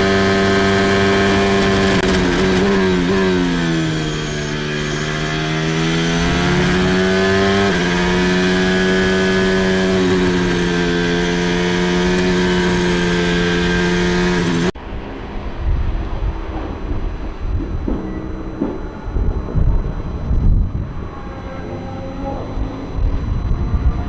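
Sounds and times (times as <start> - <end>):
racing car engine at high revs: 0.0 - 24.0.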